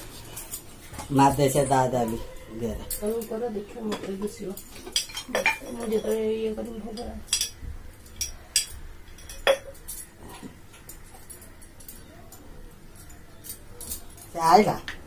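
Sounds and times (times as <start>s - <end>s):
metal and glass vessels clinking: 0.2s - 15.0s.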